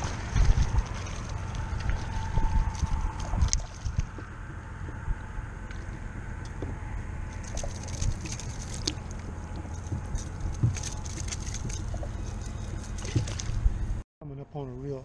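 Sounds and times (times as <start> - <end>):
water lapping: 0.0 - 13.8
wind rumbling on microphone: 0.0 - 14.0.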